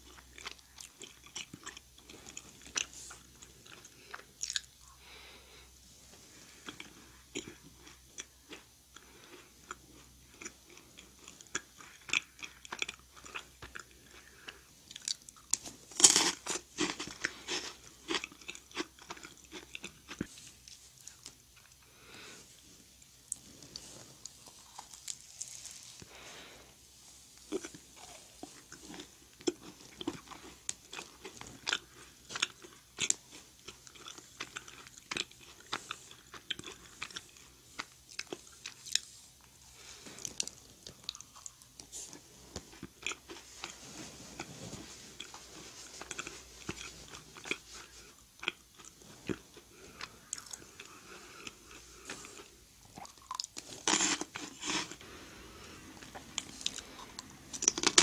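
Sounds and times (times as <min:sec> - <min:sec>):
crisp biscuit chewing and crunching: 0:00.0 - 0:05.3, 0:06.1 - 0:58.0.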